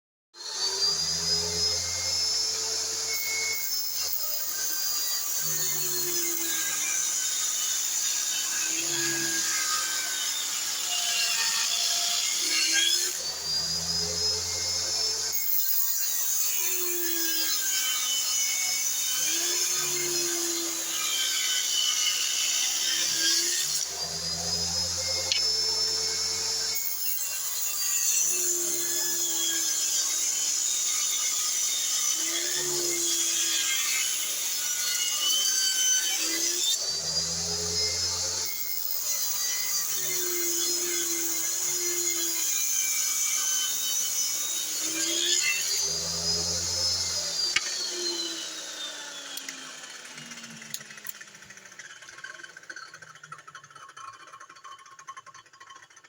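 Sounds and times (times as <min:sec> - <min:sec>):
table saw cutting wood: 0:00.4 - 0:56.0.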